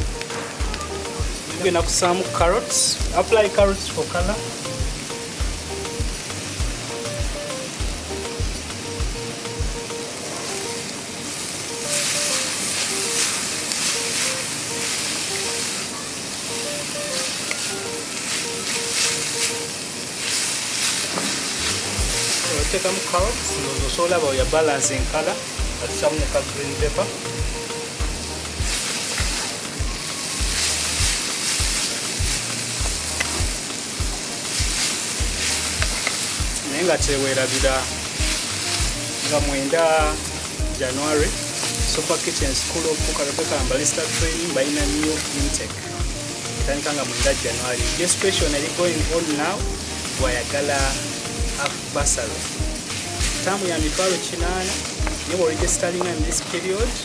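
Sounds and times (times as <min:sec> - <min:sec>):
simple background music melody: 0:00.0 - 0:57.0
vegetables sizzling in hot oil: 0:00.0 - 0:57.0.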